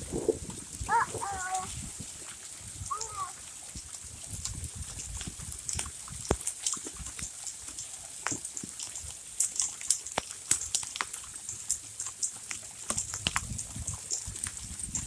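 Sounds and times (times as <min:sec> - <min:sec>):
hailstones hitting hard surfaces: 0:00.0 - 0:15.0.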